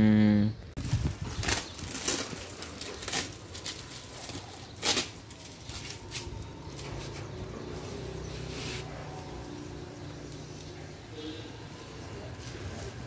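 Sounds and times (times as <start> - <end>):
plastic sack rustling: 0.8 - 10.0, 11.7 - 13.0.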